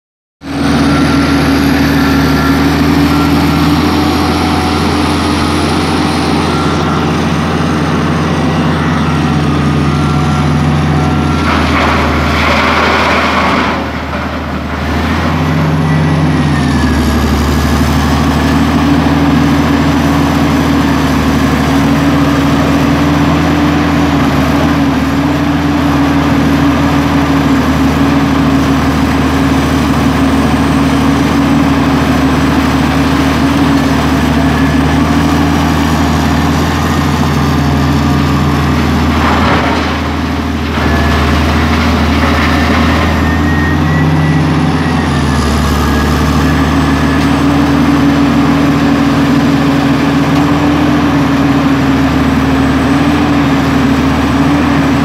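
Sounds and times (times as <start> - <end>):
excavator diesel engine running: 0.4 - 55.0.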